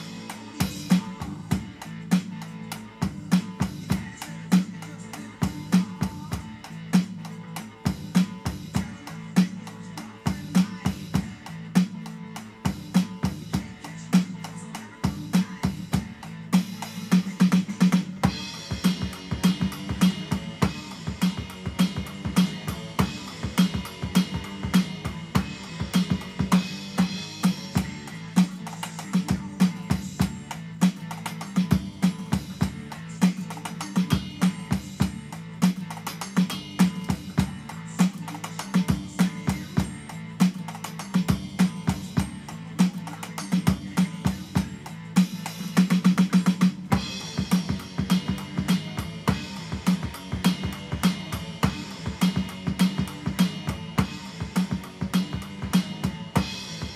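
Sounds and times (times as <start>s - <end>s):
electronic drum kit rock groove: 0.0s - 56.9s.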